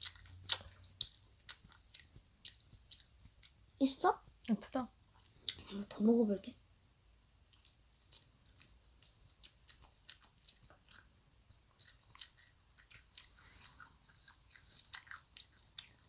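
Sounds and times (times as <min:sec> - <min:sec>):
chewing with mouth clicks: 0:00.0 - 0:05.8, 0:07.5 - 0:16.0.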